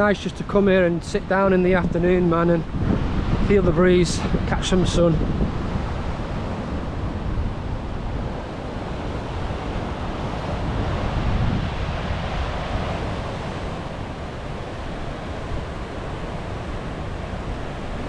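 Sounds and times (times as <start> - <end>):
ocean surf washing ashore: 0.0 - 18.0
wind buffeting microphone: 0.0 - 18.0.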